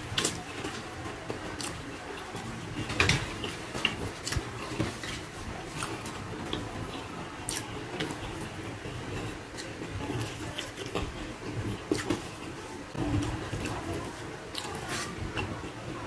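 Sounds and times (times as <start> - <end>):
person chewing: 0.0 - 15.8.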